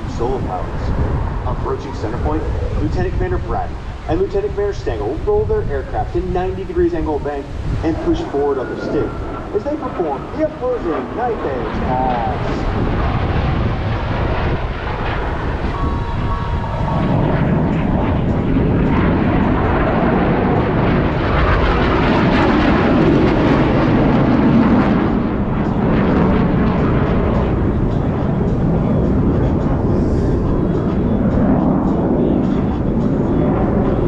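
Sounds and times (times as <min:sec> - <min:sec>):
jet engine noise: 0:00.0 - 0:34.0.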